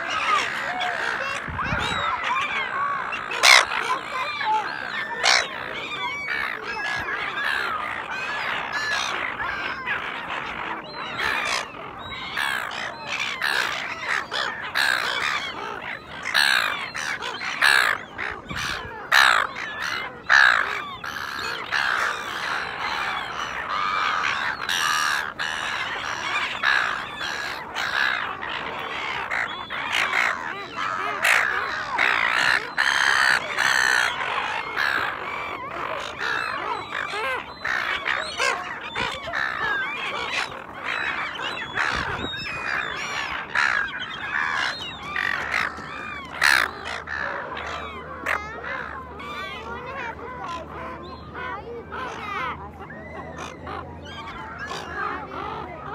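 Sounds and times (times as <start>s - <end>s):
gulls squawking: 0.0s - 55.9s.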